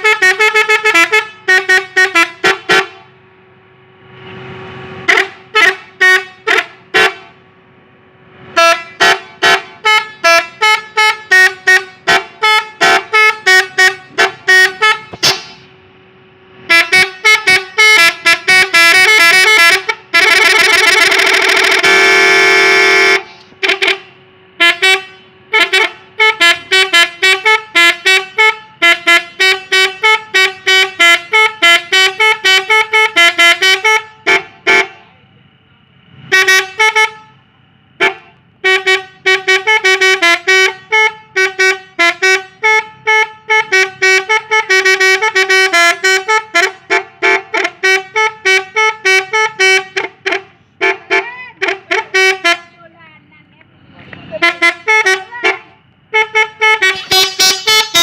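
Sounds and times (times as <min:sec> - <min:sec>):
musical car horn tune: 0:00.0 - 0:03.2, 0:04.0 - 0:07.4, 0:08.3 - 0:35.2, 0:36.1 - 0:53.1, 0:54.2 - 0:58.0.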